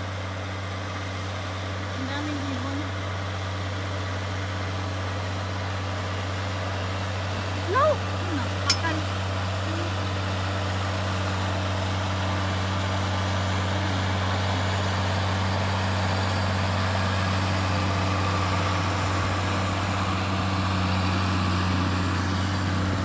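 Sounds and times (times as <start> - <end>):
tractor diesel engine droning: 0.0 - 23.0.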